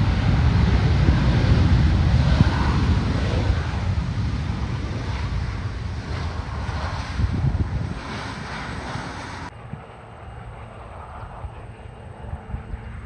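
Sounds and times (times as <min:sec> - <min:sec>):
jet engines rushing: 0:00.0 - 0:13.0
wind buffeting microphone: 0:00.0 - 0:13.0.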